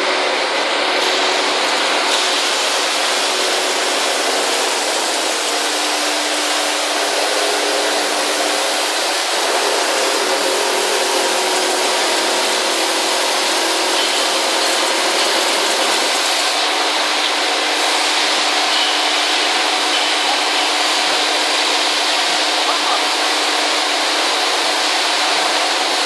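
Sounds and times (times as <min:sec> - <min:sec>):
milling machine cutting steel: 0:00.0 - 0:26.0.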